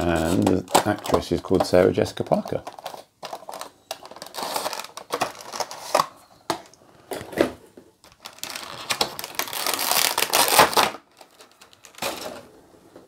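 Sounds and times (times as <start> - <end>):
plastic bag crinkling: 0.0 - 6.2, 8.0 - 12.4.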